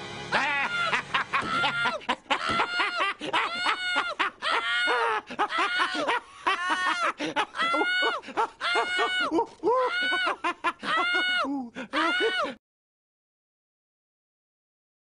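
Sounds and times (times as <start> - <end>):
man's cartoon voice laughing: 0.3 - 12.6.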